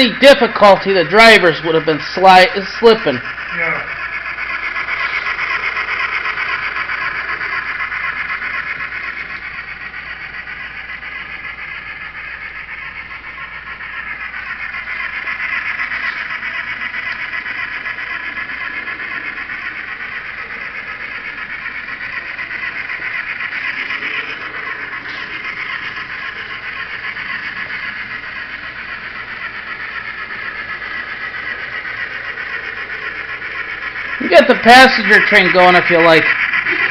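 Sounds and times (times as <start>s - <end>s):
model train steam chuffing: 0.0s - 36.9s
wheels rolling on track: 0.0s - 36.9s.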